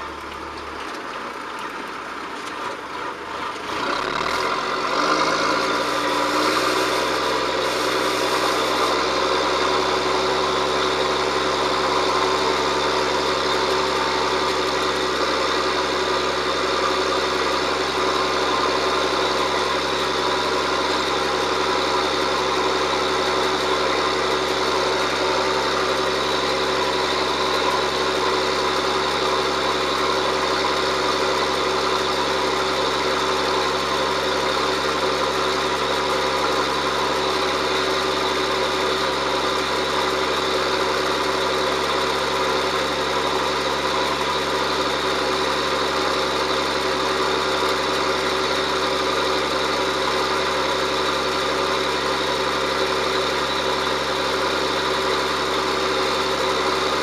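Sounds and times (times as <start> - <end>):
tractor diesel engine revving: 2.0 - 57.0.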